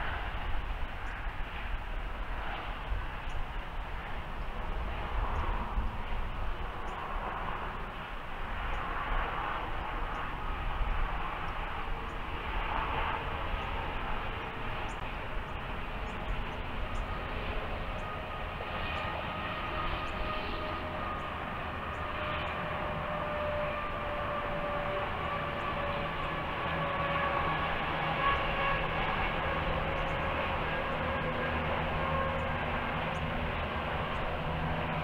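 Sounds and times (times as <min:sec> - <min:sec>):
long drifting tones: 0:00.0 - 0:35.0
train rumble: 0:00.0 - 0:35.0.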